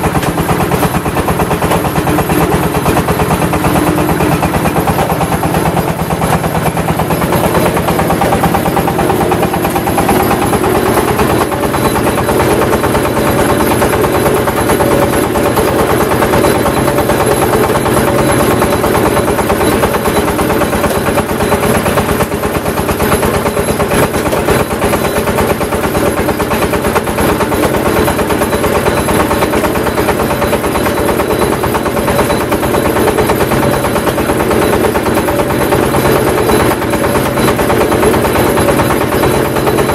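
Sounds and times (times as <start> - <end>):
brick press machine running: 0.0 - 39.9.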